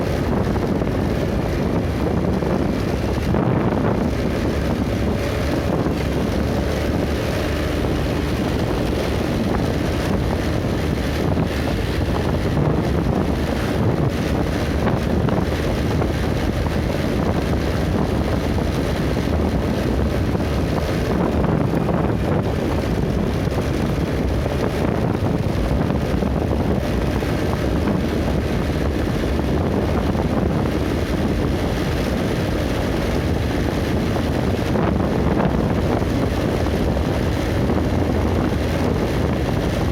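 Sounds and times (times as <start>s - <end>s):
vehicle road noise: 0.0s - 39.9s
wind rush on microphone: 0.0s - 39.9s.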